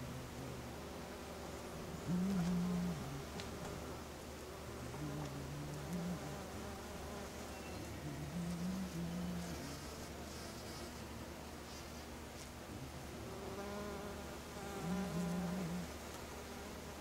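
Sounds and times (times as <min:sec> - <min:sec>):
flying insect buzzing: 0:00.9 - 0:12.1, 0:13.1 - 0:17.0.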